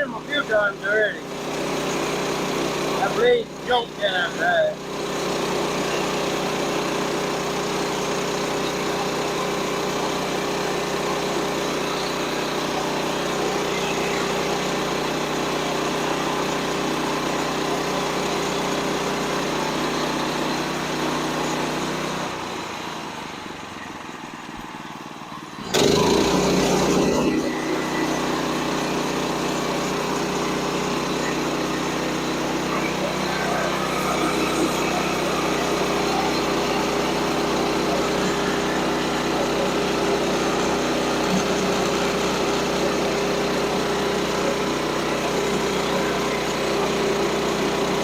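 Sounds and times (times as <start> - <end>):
sawmill gas engine running: 0.0 - 48.0.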